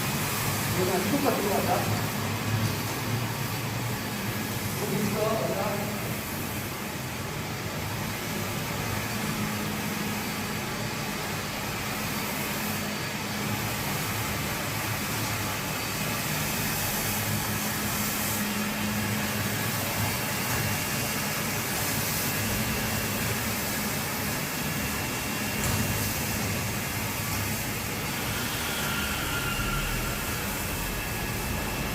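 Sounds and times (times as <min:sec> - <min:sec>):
floor scrubber motor whirring: 0:00.0 - 0:31.9.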